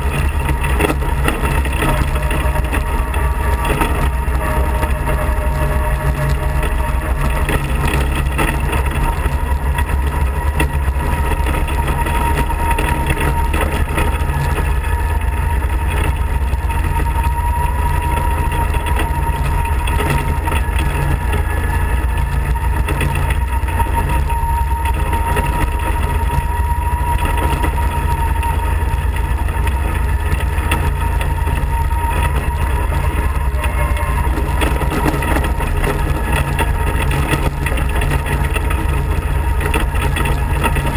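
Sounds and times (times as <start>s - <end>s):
kart engine droning: 0.0s - 40.9s.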